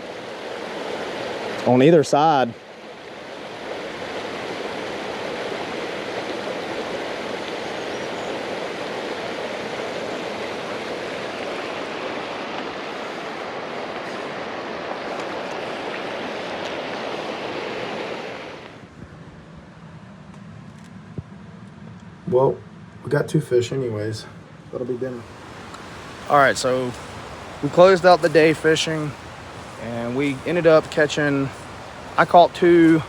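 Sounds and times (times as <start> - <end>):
creek water rushing over rocks: 0.0 - 18.8, 25.2 - 33.0.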